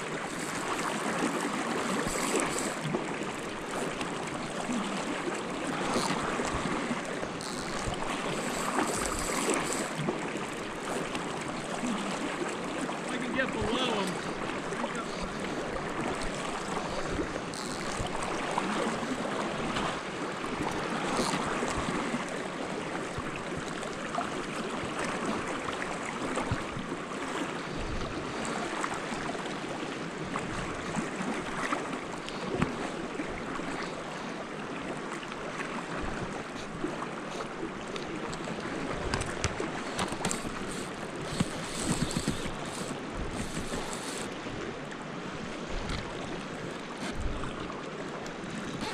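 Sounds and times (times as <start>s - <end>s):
fast-flowing creek water: 0.0s - 48.9s.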